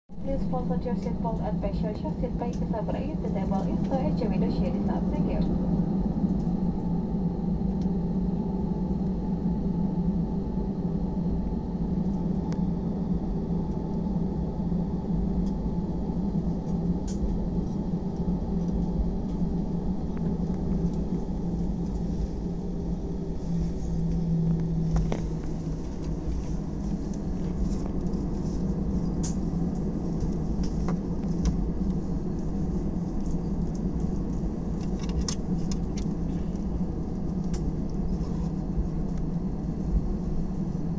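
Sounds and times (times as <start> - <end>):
airliner cabin jet engine drone: 0.1 - 40.9.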